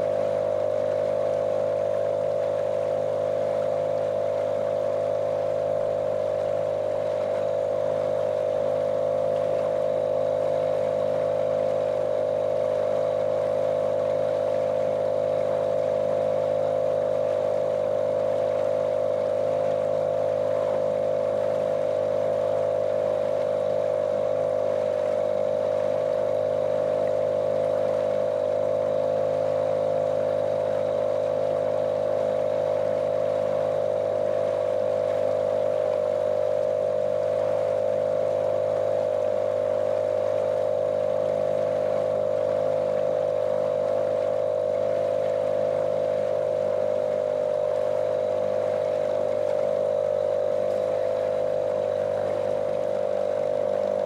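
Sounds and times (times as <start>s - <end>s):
outboard engine droning: 0.0s - 54.0s.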